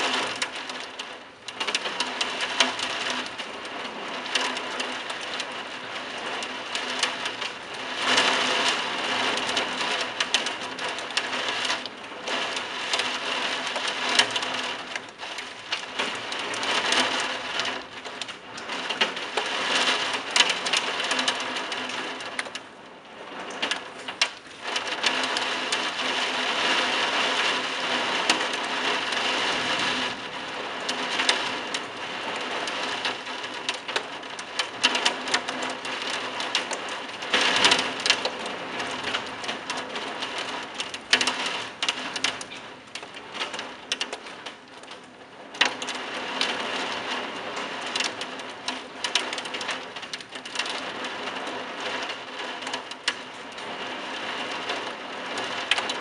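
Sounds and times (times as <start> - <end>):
heavy rain on roof tiles: 0.0 - 56.0.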